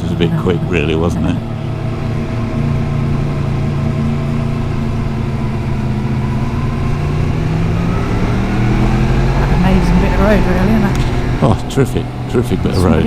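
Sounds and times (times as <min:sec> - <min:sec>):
motorcycle engine pulling uphill: 0:00.0 - 0:13.0.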